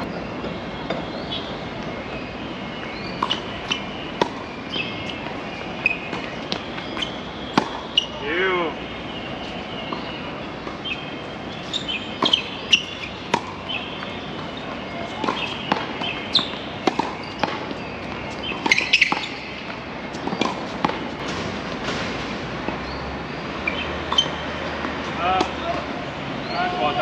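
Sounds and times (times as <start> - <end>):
tennis balls bouncing on court: 2.8 - 8.3, 9.2 - 26.1.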